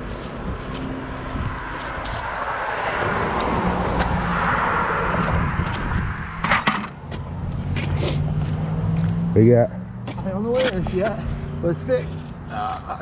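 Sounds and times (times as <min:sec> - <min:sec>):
car passing by: 0:00.3 - 0:12.7.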